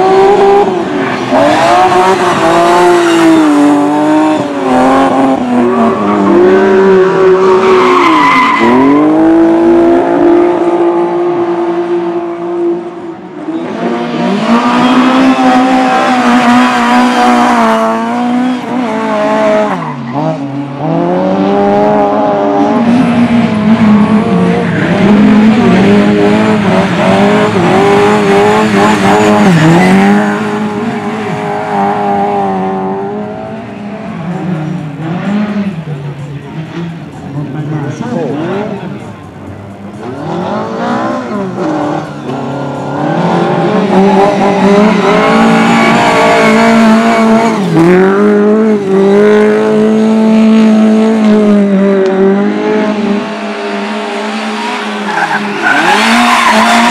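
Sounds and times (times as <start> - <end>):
race car engines revving: 0.0 - 56.9.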